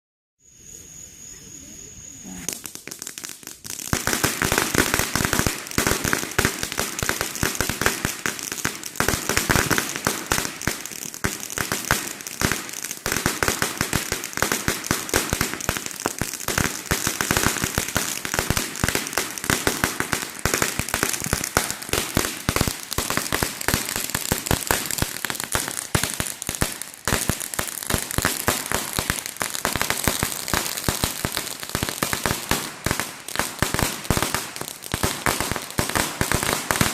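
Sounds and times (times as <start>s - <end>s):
firecrackers crackling: 2.2s - 36.9s.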